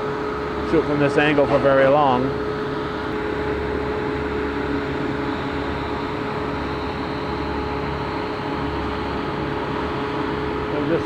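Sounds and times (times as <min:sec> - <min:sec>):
machine drone with whine: 0:00.0 - 0:11.0.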